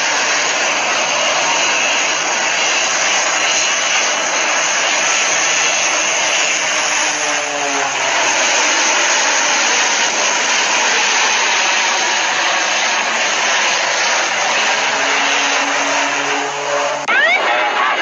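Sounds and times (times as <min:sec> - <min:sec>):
propeller airplane engines: 0:00.0 - 0:18.0.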